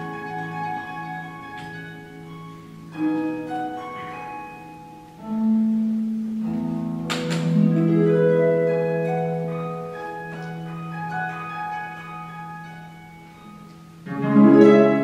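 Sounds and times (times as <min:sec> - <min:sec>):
harp notes and chords: 0:00.0 - 0:15.0.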